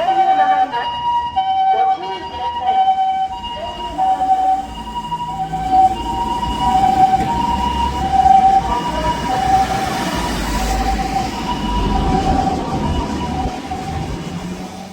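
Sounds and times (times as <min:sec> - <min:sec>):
two-tone ambulance siren: 0:00.0 - 0:14.9
low vehicle rumble: 0:02.3 - 0:14.9.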